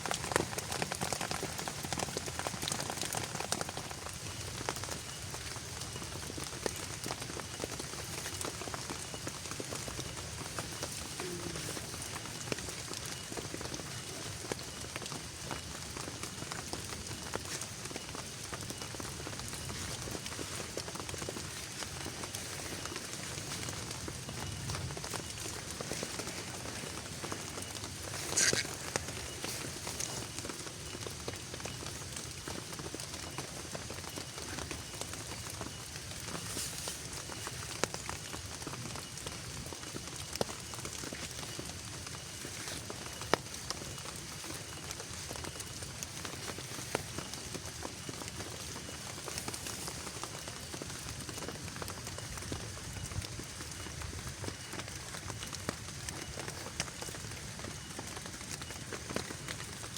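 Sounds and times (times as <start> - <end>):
raindrops ticking on a surface: 0.0 - 59.9
steady rain falling: 0.0 - 59.9.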